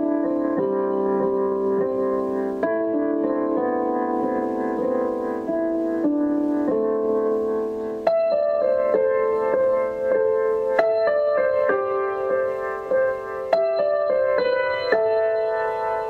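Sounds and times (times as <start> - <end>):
calm keyboard music: 0.0 - 16.0.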